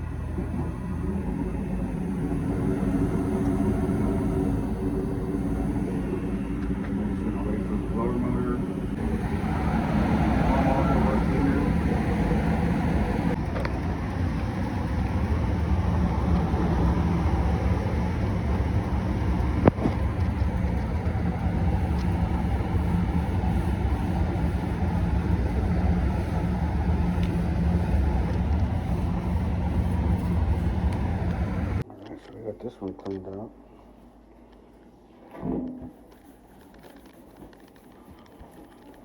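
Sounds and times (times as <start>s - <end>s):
gas furnace rumbling: 0.0s - 31.9s.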